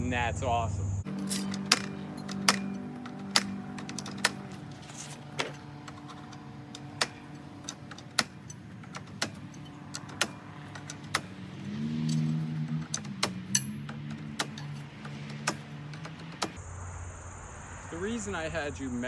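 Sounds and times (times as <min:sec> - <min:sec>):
engine idling: 0:01.1 - 0:16.6
sharp clicks and knocks: 0:01.1 - 0:16.6.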